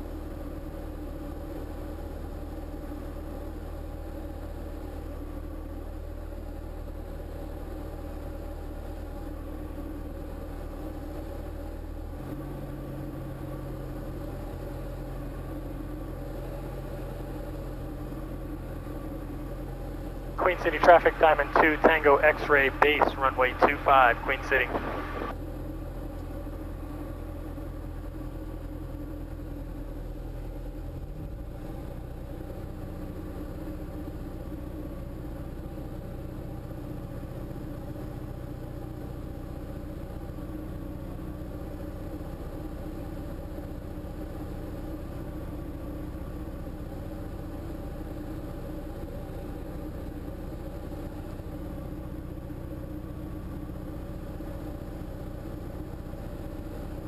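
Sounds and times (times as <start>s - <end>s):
light aircraft engine and propeller drone: 0.0s - 57.0s.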